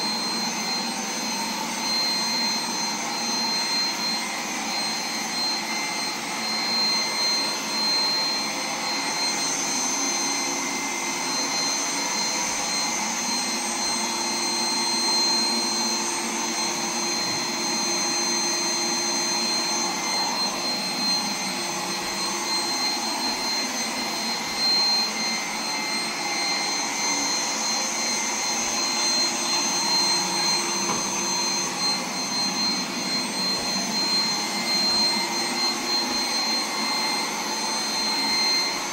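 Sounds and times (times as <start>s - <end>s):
high-pitched motor whine: 0.0s - 38.9s
robot vacuum whirring: 0.0s - 38.9s.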